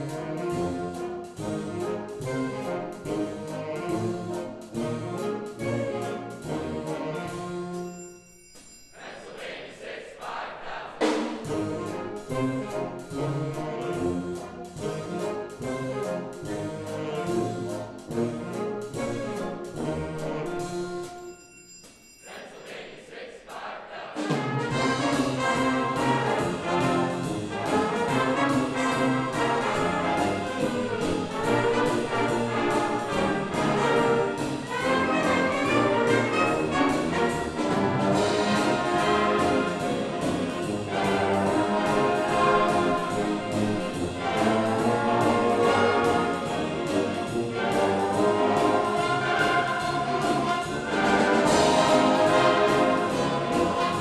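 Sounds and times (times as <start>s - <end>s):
concert band playing: 0.0s - 8.0s, 11.0s - 21.4s, 24.2s - 54.0s.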